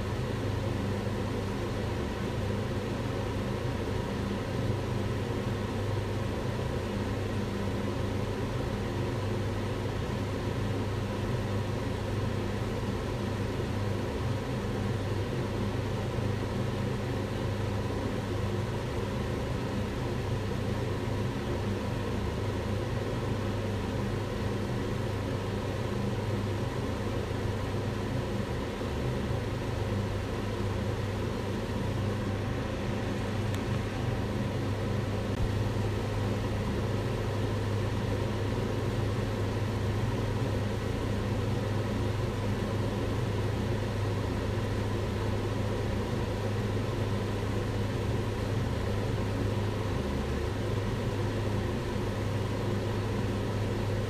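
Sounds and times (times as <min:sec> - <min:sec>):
range hood fan running: 0:00.0 - 0:54.0.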